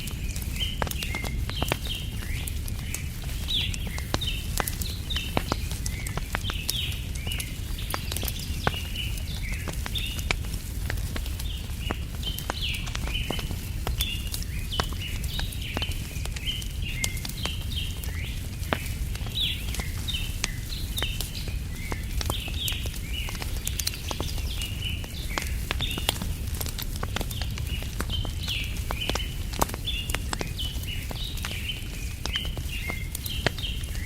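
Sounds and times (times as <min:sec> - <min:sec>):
campfire crackling and popping: 0:00.0 - 0:34.0
small birds chirping: 0:00.0 - 0:34.0.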